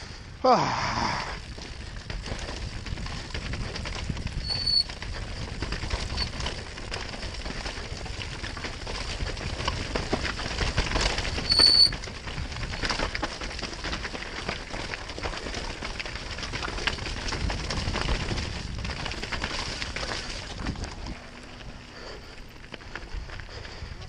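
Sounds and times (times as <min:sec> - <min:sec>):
bike rattling over rough trail: 0:00.0 - 0:24.0.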